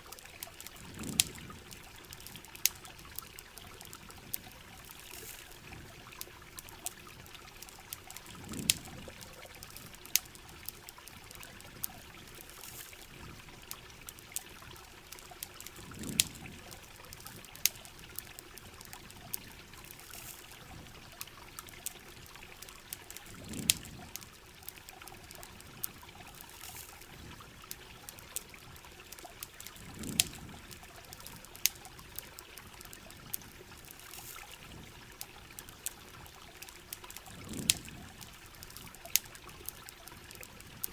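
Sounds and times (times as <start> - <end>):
sharp crackles and pops: 0.0 - 40.9
trickling water: 0.0 - 40.9.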